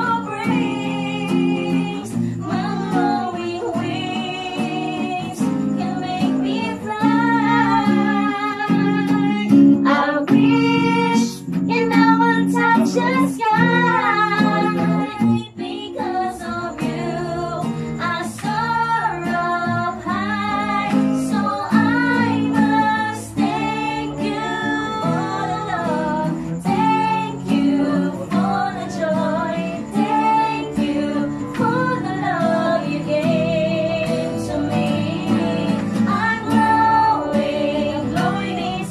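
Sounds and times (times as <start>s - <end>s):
group singing: 0.0s - 38.9s
strummed acoustic guitars: 0.0s - 38.9s.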